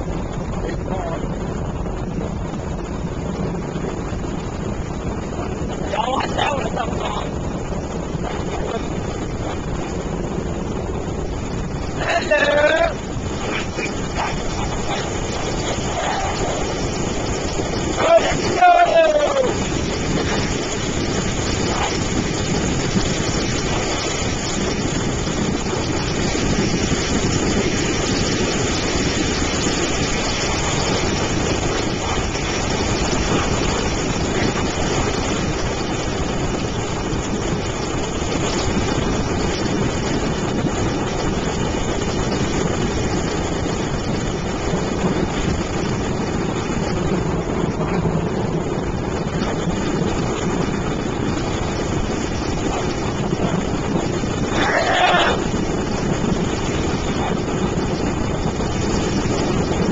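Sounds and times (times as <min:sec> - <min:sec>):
airboat engine and propeller: 0:00.0 - 0:59.9
wind on microphone: 0:00.0 - 0:59.9.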